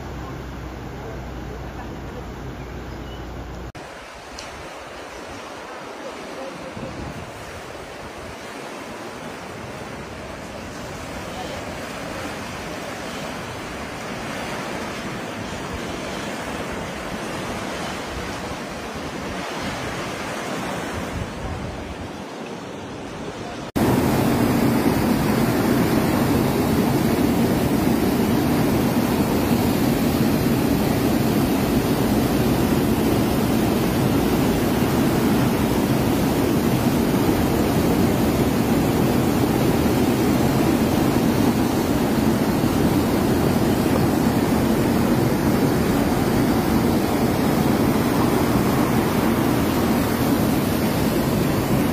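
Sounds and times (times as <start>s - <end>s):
floodwater rushing: 3.8s - 51.9s.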